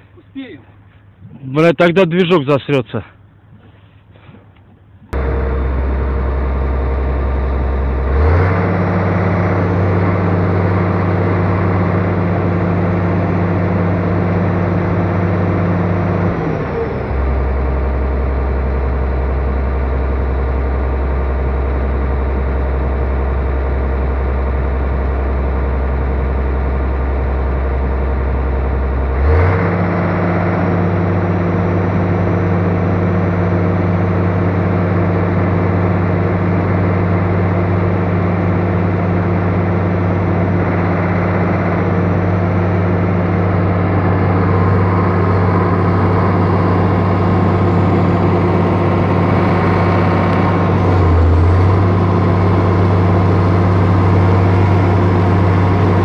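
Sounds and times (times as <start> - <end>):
excavator diesel engine running: 4.8 - 56.0.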